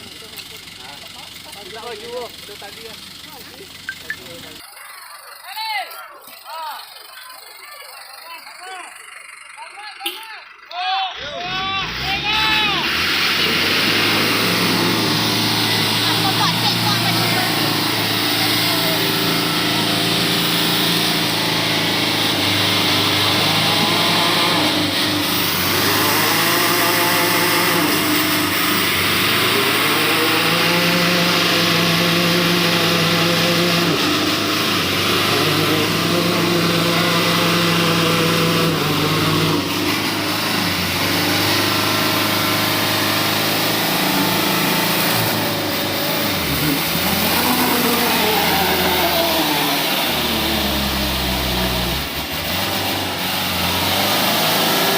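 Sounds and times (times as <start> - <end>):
vehicle engine revving: 6.3 - 54.9.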